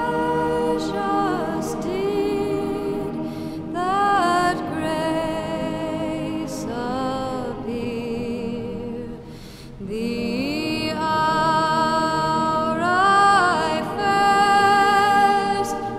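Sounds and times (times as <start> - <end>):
slow music with gliding notes: 0.0 - 15.9.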